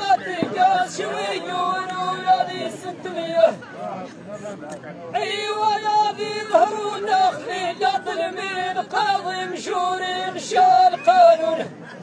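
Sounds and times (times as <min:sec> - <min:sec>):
men singing chanted verse: 0:00.0 - 0:03.6, 0:05.2 - 0:11.8.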